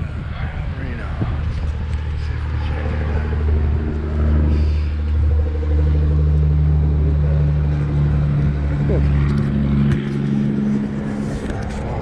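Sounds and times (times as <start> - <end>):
vehicle engine idling: 1.5 - 12.0.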